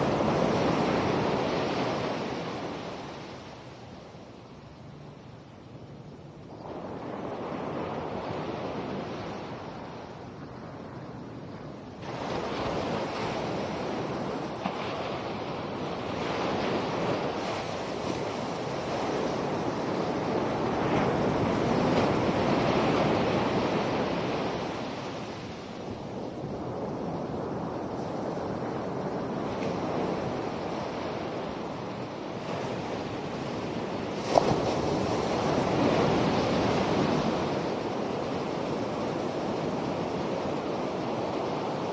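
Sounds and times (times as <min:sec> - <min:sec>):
wind buffeting microphone: 0:00.0 - 0:41.9
waves breaking: 0:07.2 - 0:41.9.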